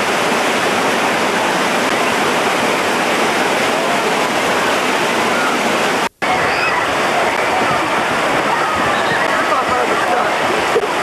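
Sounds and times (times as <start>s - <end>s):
falling water: 0.0s - 11.0s.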